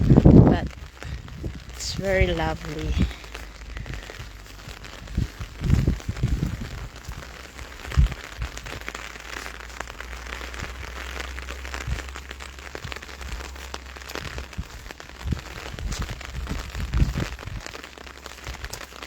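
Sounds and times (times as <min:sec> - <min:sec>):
light rain pattering: 0:00.0 - 0:19.0
wind on microphone: 0:00.0 - 0:19.0.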